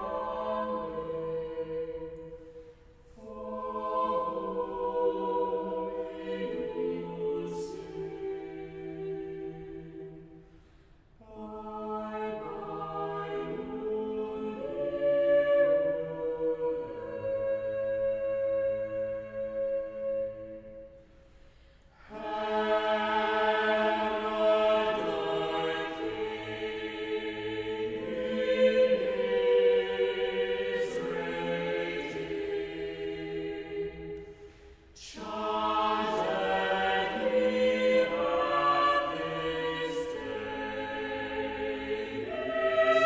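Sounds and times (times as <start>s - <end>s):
choir singing a carol: 0.0s - 43.0s.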